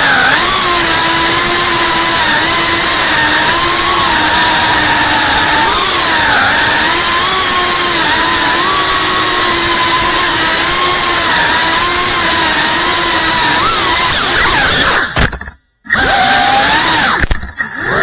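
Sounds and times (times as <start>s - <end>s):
drone motors buzzing: 0.0s - 18.0s.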